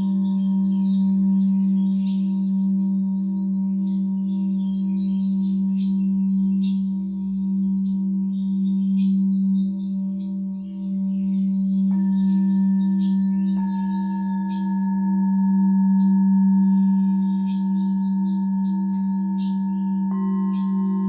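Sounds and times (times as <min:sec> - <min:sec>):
high chirping: 0:00.0 - 0:21.0
higher singing bowls struck: 0:00.0 - 0:21.0
singing bowl low tone: 0:00.0 - 0:21.0.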